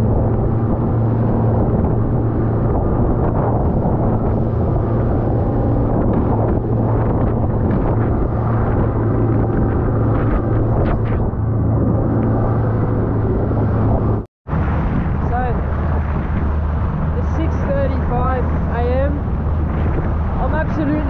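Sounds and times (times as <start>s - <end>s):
outboard motor running: 0.0s - 21.0s
wind and water rushing: 0.0s - 21.0s.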